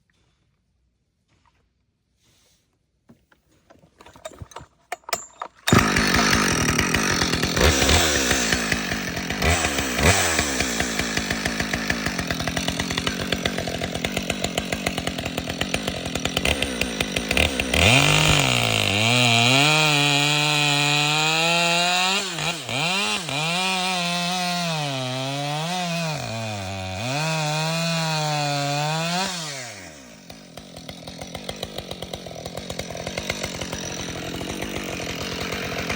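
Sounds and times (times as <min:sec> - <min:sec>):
chainsaw cutting through wood: 0:04.1 - 0:35.9
chainsaw idling and revving: 0:05.1 - 0:35.9.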